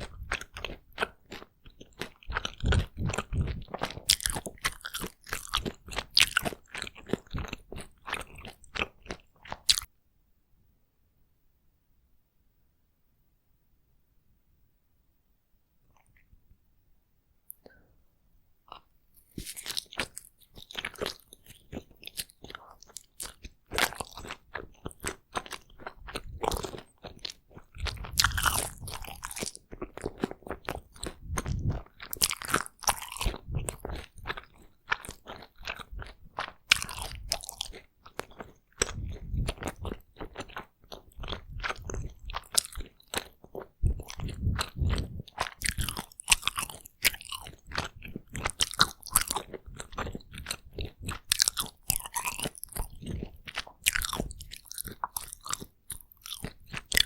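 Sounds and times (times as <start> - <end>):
food being bitten and chewed: 0.0 - 9.9, 15.9 - 16.4, 18.7 - 57.0.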